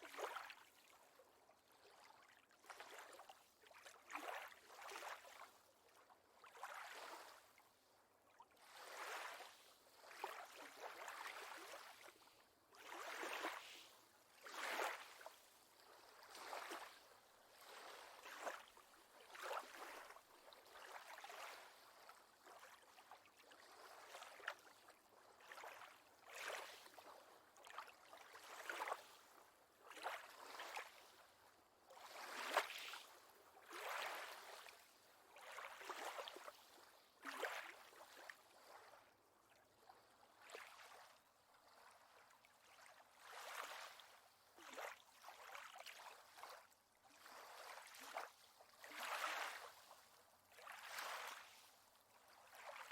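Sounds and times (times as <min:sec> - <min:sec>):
lake water lapping softly: 0:00.0 - 0:52.9.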